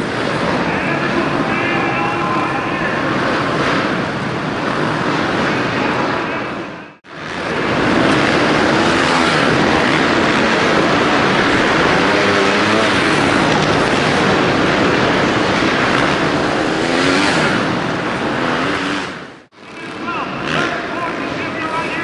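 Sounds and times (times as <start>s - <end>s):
arena noise: 0.0s - 22.0s
dirt bike engines revving: 0.0s - 22.0s.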